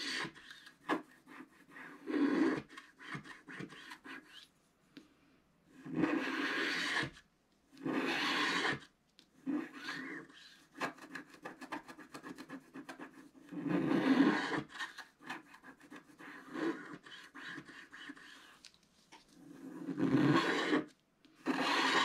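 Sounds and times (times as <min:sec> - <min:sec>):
stylus scratching paper: 0:00.0 - 0:04.5, 0:05.8 - 0:07.2, 0:07.8 - 0:22.0.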